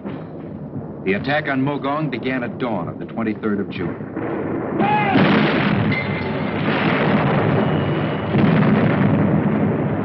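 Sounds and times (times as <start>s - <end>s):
artillery fire and explosions: 0.0s - 10.0s
loud blast: 0.0s - 10.0s.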